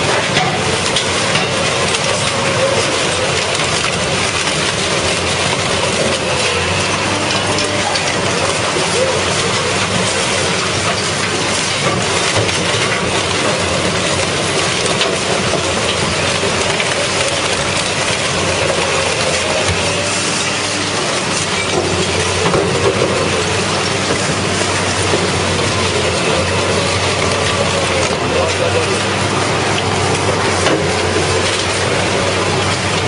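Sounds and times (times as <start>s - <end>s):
grinding and clattering metal: 0.0s - 33.0s.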